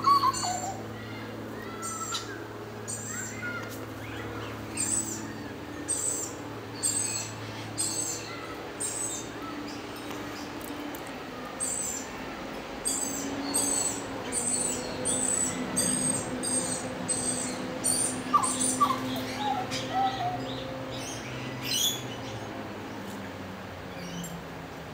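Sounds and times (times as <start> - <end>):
high sharp bird calls: 0.0 - 10.6, 12.8 - 22.3
low flute-like bird notes: 0.0 - 23.0.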